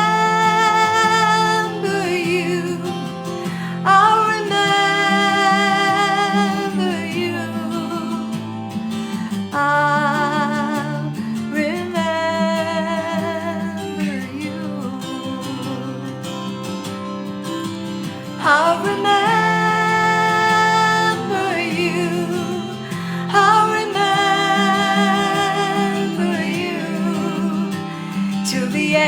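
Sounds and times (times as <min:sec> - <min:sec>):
woman singing with vibrato: 0:00.0 - 0:16.6, 0:18.3 - 0:29.0
acoustic guitar: 0:00.0 - 0:29.0.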